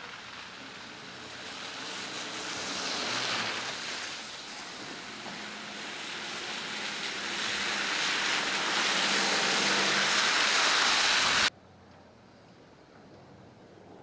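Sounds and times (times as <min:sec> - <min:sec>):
tyres hissing through slush: 0:00.0 - 0:11.5.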